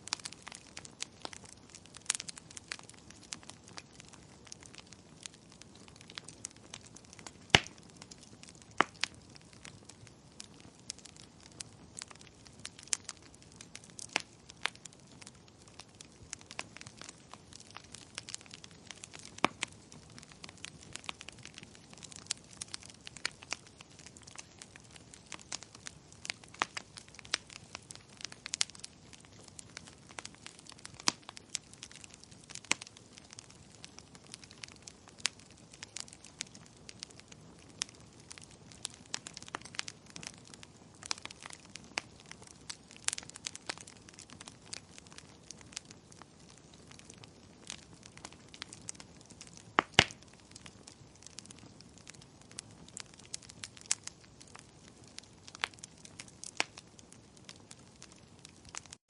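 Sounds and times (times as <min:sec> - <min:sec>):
wood fire popping and snapping: 0:00.0 - 0:59.0.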